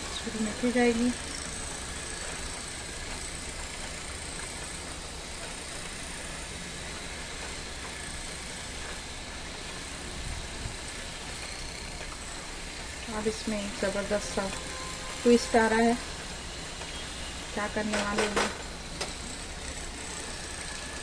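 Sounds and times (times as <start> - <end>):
cooking hiss: 0.0 - 21.0.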